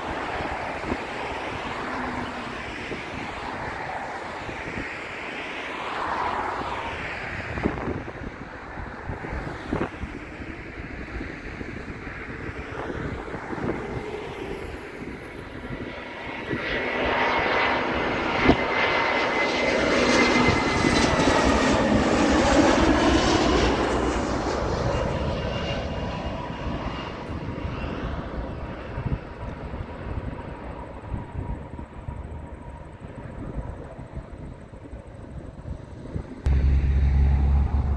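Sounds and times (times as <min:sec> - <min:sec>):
jet airliner passing overhead: 0:00.0 - 0:37.9.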